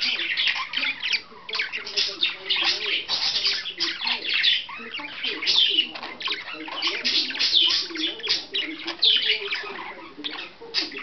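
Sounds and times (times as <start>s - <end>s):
budgerigar chattering: 0.0s - 11.0s.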